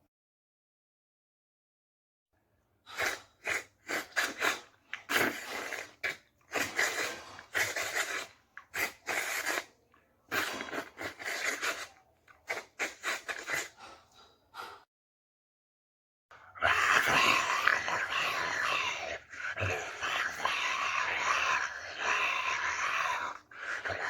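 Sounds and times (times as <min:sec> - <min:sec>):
breathy hissing mouth sounds: 0:02.8 - 0:14.8, 0:16.3 - 0:24.0.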